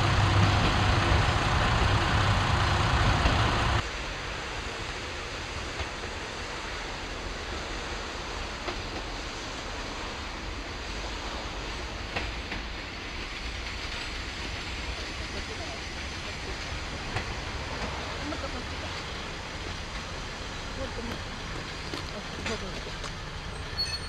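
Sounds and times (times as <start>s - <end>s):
diesel railcar running: 0.0s - 24.0s.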